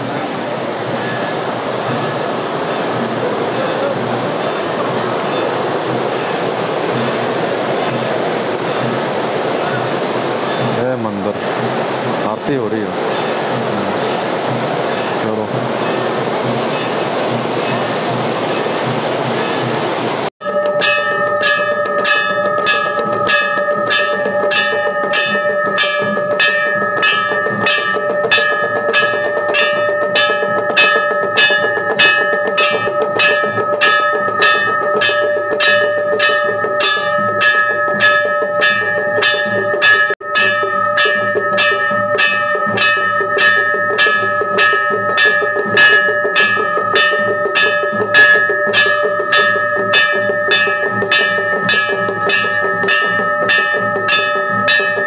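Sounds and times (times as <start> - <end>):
bells rung rapidly: 0.6 - 55.0.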